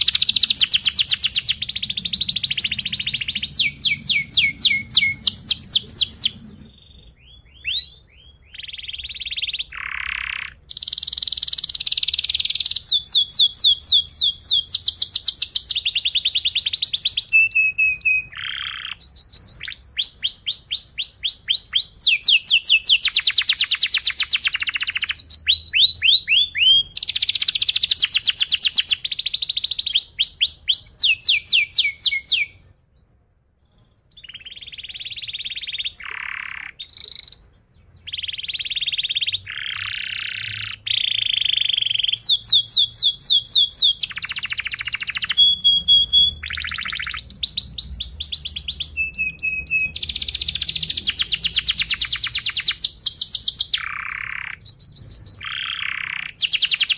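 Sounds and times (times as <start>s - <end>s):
canary singing: 0.0s - 56.9s.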